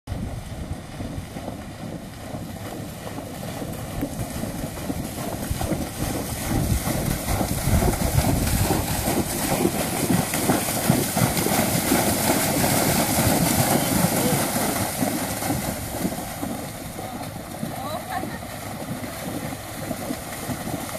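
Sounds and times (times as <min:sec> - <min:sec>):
hooves splashing through water: 0:00.1 - 0:20.9
wind rumbling on microphone: 0:00.1 - 0:20.9.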